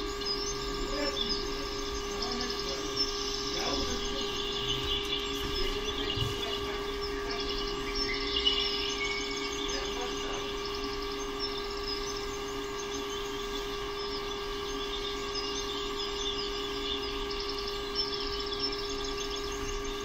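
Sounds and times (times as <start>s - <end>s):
small birds chirping: 0.0s - 20.0s
steady humming tone: 0.0s - 20.0s.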